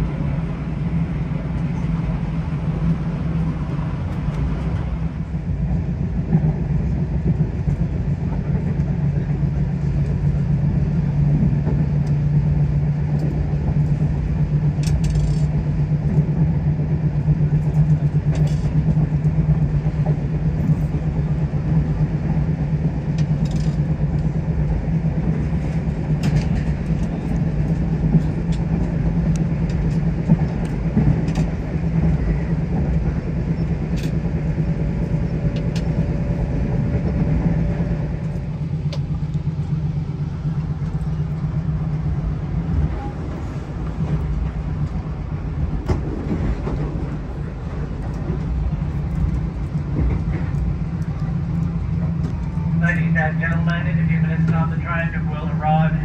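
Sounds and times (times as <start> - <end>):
vehicle hum and rumble: 0.0 - 56.0.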